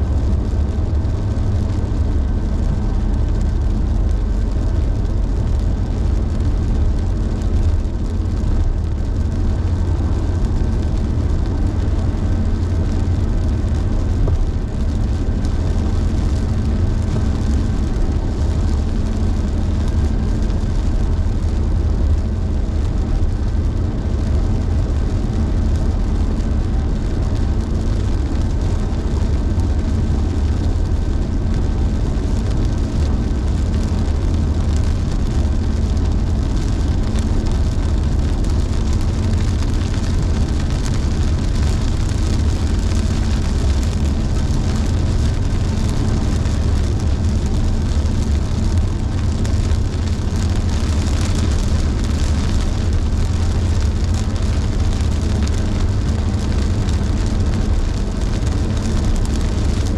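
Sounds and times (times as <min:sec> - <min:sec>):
car driving on wet road: 0:00.0 - 0:59.9
rain hiss: 0:00.0 - 0:59.9.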